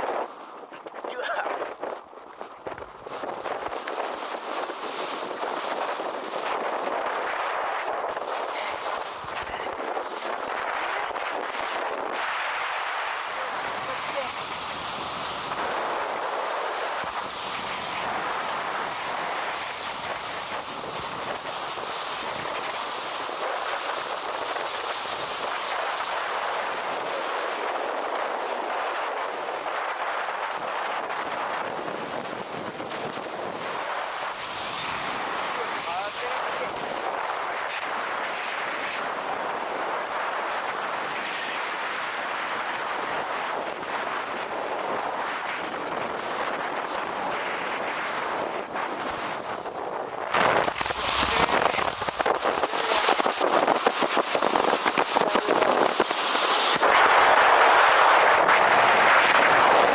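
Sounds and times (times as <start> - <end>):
strong wind blowing: 0.0 - 59.9.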